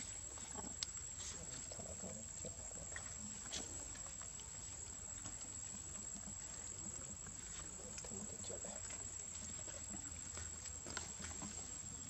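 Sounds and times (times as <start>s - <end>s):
faint low murmurs: 0.0s - 12.0s.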